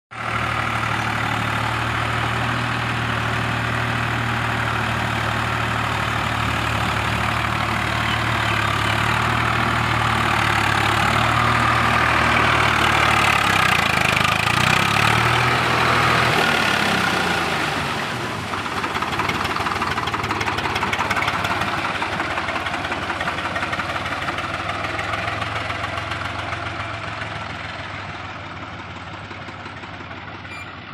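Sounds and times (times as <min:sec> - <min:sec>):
diesel tractor engine clattering: 0:00.2 - 0:30.9.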